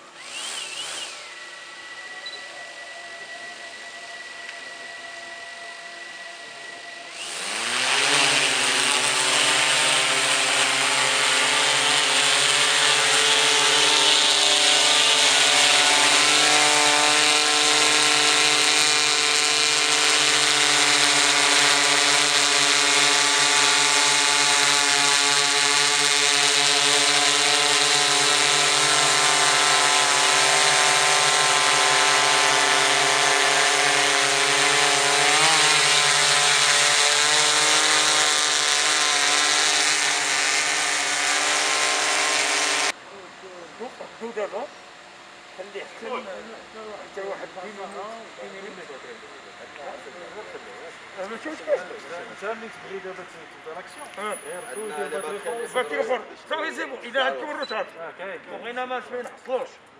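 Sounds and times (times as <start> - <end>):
drone propellers whining: 0.0 - 53.4.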